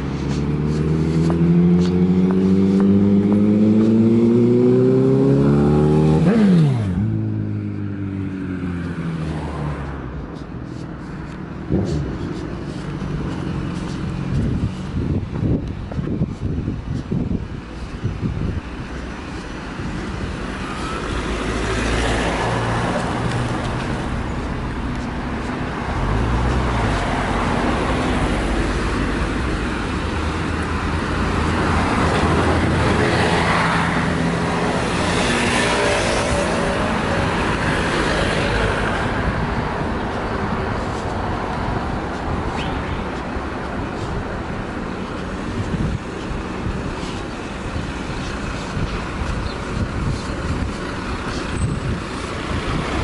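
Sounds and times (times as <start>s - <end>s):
bus driving by: 0.0s - 53.0s
traffic passing: 0.0s - 53.0s.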